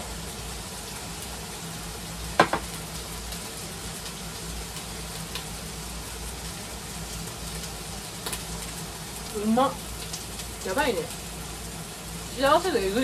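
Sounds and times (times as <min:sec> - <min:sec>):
meat sizzling on grill: 0:00.0 - 0:13.0.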